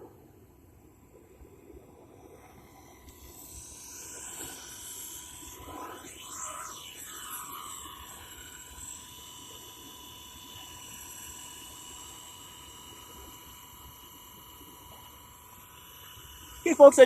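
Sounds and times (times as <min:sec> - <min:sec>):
rc helicopter motor whining: 0:00.0 - 0:17.0.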